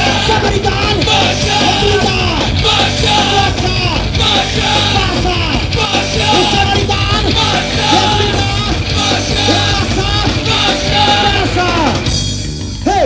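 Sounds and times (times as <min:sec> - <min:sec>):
person singing lead vocal: 0:00.0 - 0:12.0
drums: 0:00.0 - 0:13.0
electric guitars: 0:00.0 - 0:13.0.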